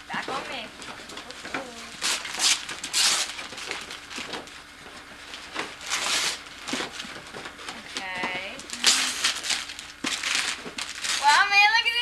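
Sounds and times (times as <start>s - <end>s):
wrapping paper tearing and crumpling: 1.2s - 11.9s.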